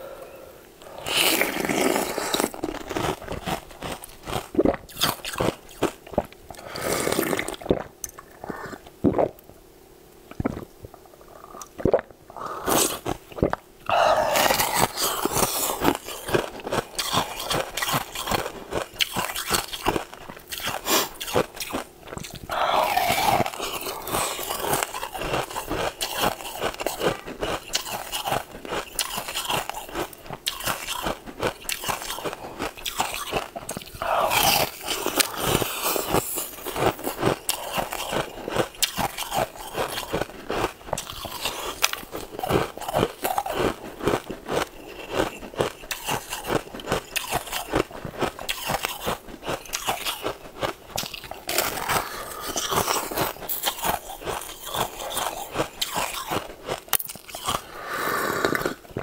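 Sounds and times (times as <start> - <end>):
crunchy chewing: 0.8 - 9.4, 10.3 - 59.0.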